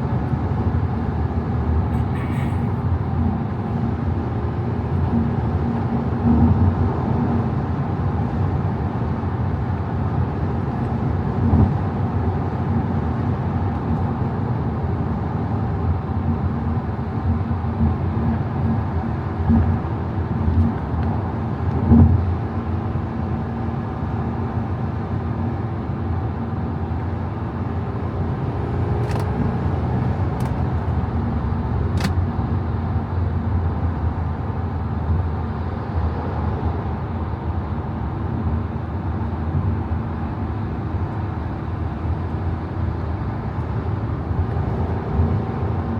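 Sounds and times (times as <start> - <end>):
car engine and tyre rumble: 0.0 - 45.9.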